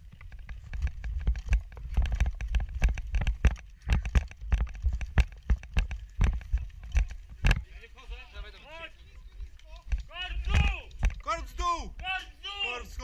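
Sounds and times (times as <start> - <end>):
gear rattling and thumping: 0.0 - 7.9, 9.4 - 12.1
running footsteps on grass: 0.0 - 13.0.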